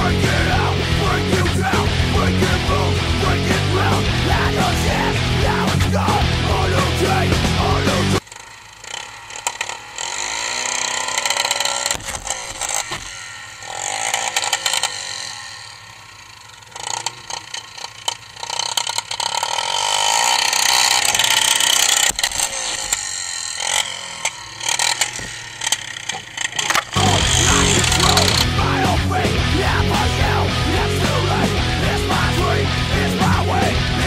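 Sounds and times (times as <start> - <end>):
atv engines revving: 0.0 - 34.0.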